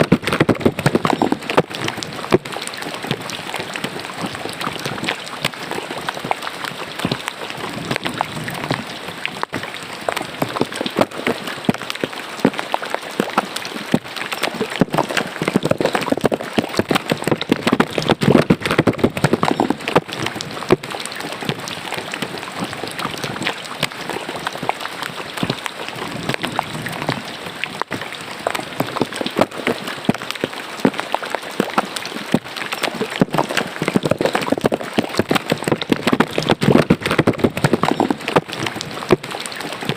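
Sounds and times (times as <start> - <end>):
rain pattering on water: 0.0 - 39.9.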